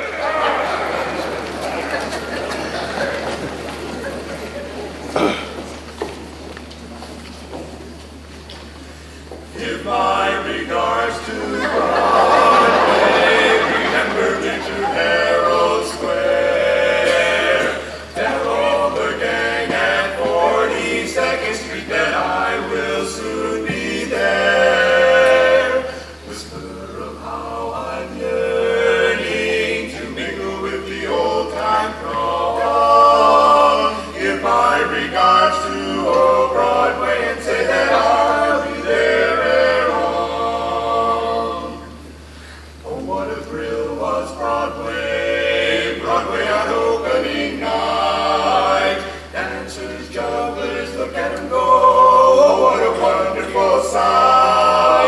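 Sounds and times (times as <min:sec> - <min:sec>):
barbershop chorus singing: 0:00.0 - 0:03.6, 0:09.5 - 0:55.0.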